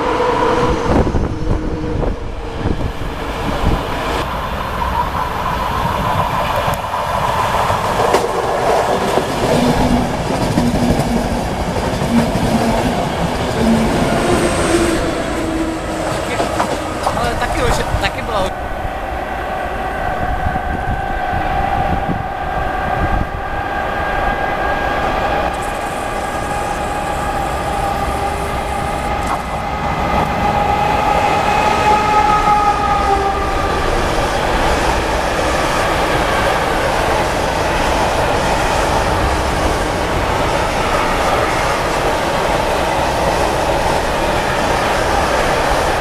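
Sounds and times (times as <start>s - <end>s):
electric locomotive whine: 0.0s - 46.0s.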